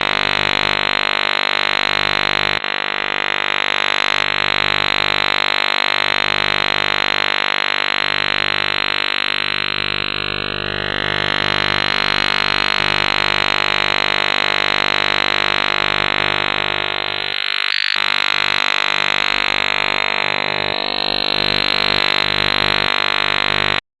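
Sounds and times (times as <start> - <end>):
harsh electronic drone: 0.0 - 23.8.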